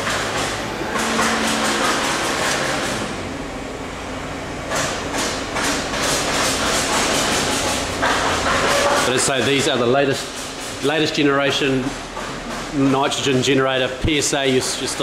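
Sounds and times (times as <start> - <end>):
air compressors running: 0.0 - 15.0.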